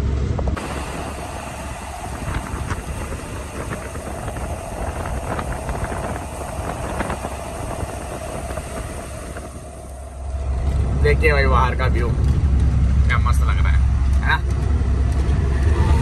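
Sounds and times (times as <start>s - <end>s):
truck engine and road rumble: 0.0s - 16.0s
wind buffeting microphone: 0.0s - 16.0s.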